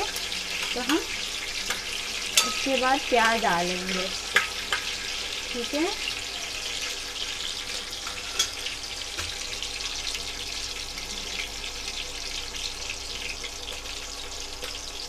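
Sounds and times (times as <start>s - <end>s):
spices sizzling in hot ghee: 0.0s - 15.0s.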